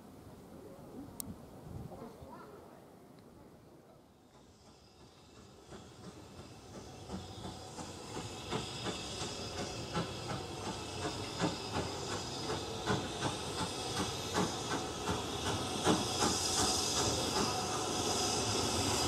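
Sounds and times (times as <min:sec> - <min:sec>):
steam locomotive approaching: 0:03.2 - 0:19.0
hiss of steam: 0:03.7 - 0:19.0.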